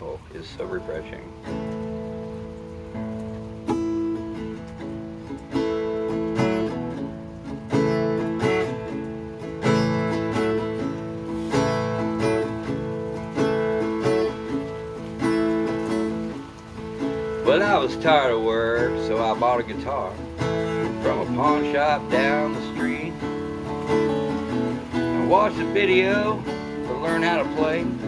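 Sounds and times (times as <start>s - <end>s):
acoustic guitar strummed and picked: 0.0s - 28.0s.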